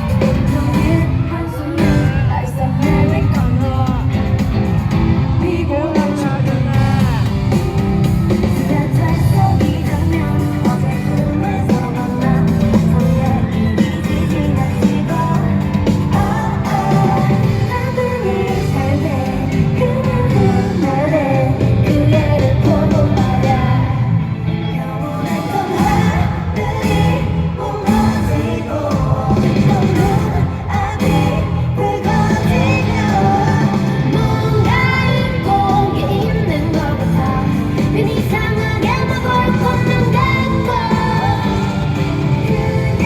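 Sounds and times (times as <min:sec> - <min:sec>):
pop backing track with beat: 0:00.0 - 0:43.0
women singing: 0:00.0 - 0:43.0.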